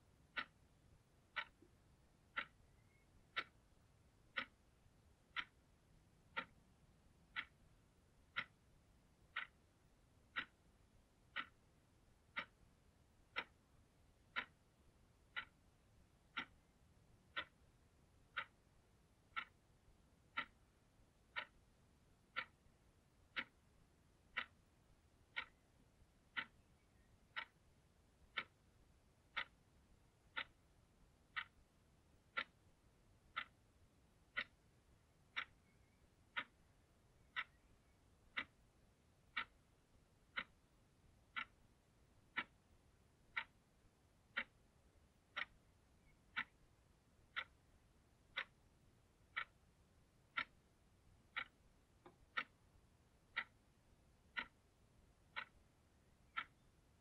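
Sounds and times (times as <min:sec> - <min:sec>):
alarm clock ticking: 0:00.0 - 0:57.0.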